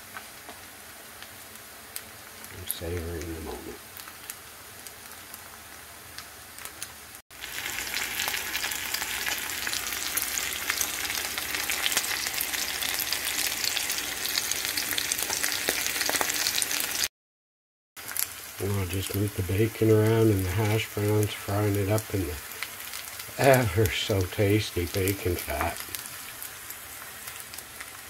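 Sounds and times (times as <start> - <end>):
food sizzling in a frying pan: 0.0 - 17.1, 18.0 - 28.0.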